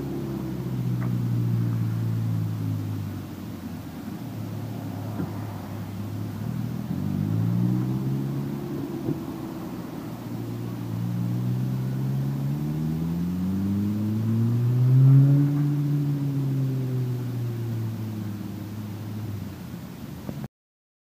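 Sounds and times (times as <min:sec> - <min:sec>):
motorcycle engine accelerating: 0:00.0 - 0:19.6.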